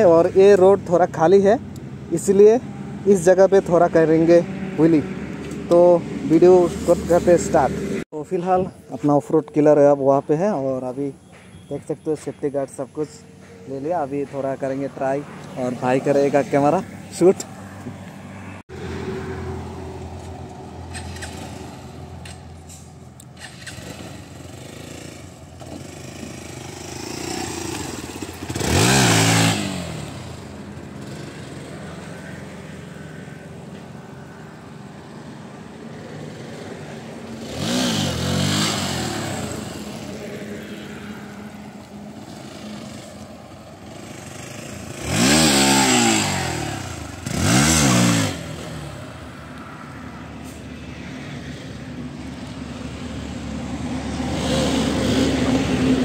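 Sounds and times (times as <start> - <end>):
motorcycle engine revving: 0.0 - 8.1, 13.0 - 49.6, 52.3 - 56.0.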